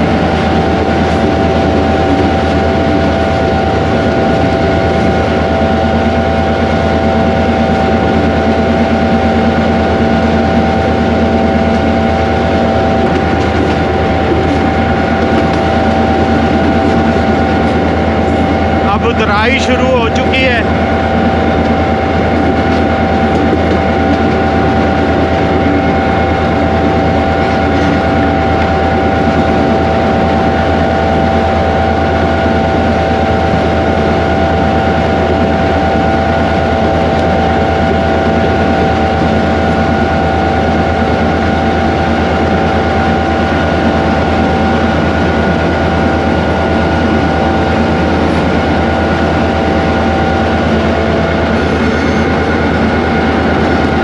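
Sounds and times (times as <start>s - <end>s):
constant whine: 0.0s - 54.0s
locomotive engine running: 0.0s - 54.0s.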